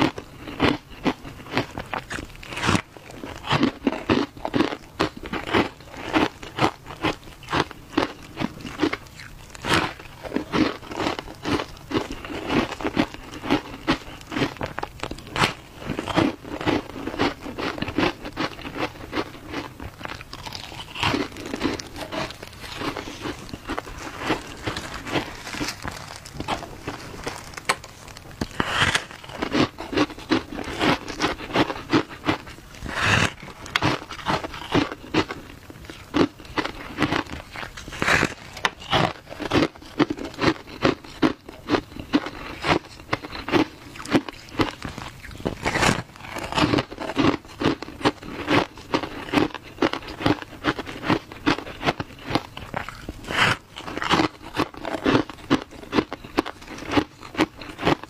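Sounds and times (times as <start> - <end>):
crunching ice while chewing: 0.0 - 58.0.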